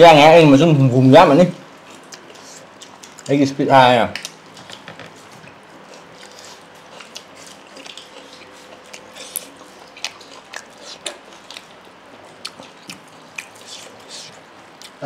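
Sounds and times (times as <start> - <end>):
meat being bitten and chewed: 1.7 - 3.4, 4.2 - 15.0.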